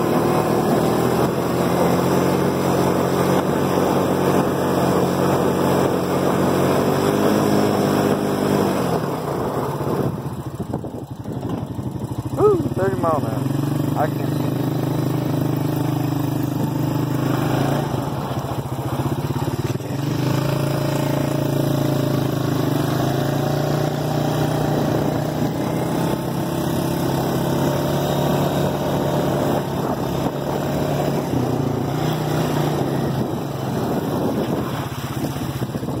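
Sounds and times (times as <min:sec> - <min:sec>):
atv engine droning: 0:00.0 - 0:36.0.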